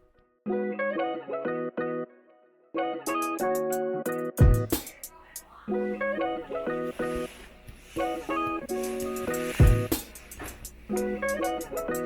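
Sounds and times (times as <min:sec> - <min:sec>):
plucked guitar music: 0:00.1 - 0:04.8, 0:05.7 - 0:12.0.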